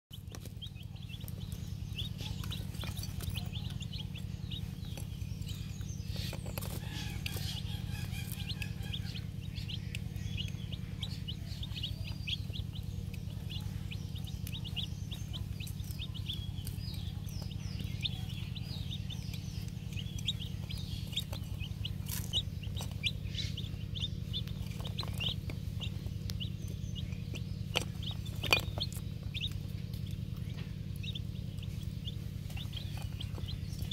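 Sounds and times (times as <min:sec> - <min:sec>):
chicks peeping: 0:00.1 - 0:33.9
steady low hum: 0:00.1 - 0:33.9.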